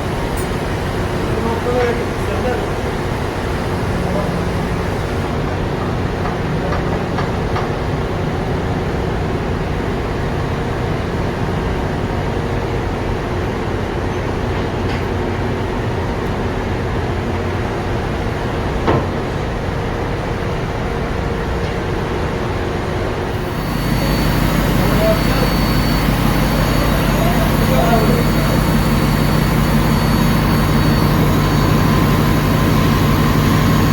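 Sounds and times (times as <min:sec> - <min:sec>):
ship engine-room machinery: 0:00.0 - 0:33.9.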